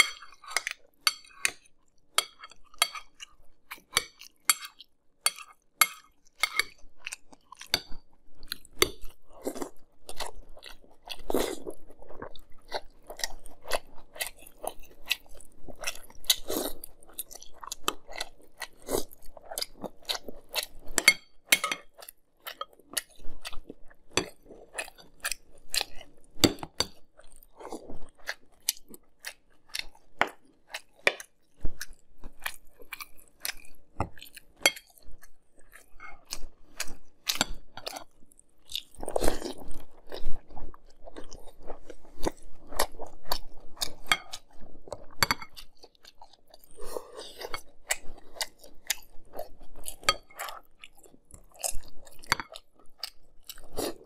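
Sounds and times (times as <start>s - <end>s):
person chewing crunchy cereal: 0.0s - 54.0s.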